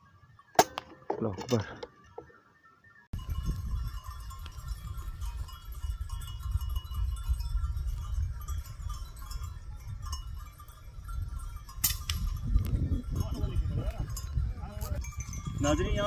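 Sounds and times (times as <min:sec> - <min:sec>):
wind rumbling on microphone: 0:03.1 - 0:16.0.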